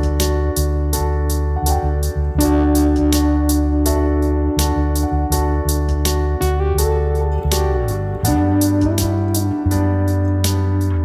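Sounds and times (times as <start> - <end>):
background music with keyboard and guitar: 0.0 - 11.0.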